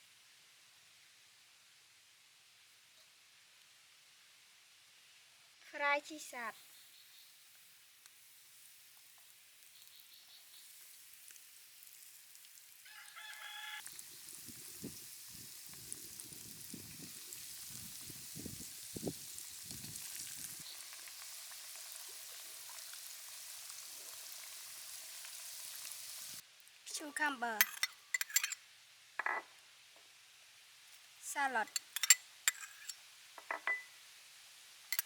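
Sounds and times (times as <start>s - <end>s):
food deep-frying in hot oil: 0.0s - 35.0s.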